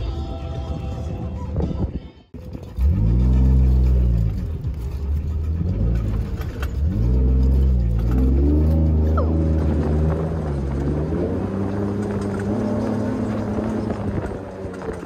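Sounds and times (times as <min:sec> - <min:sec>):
vehicle engine revving: 0:02.4 - 0:15.0.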